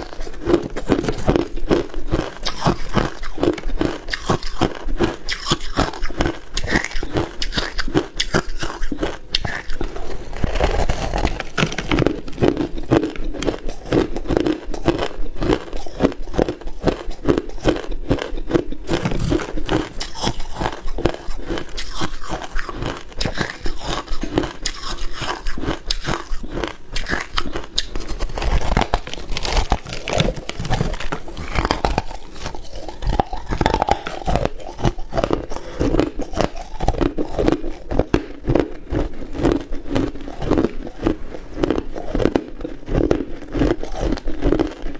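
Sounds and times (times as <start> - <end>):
crunching ice in the mouth: 0.0 - 44.9.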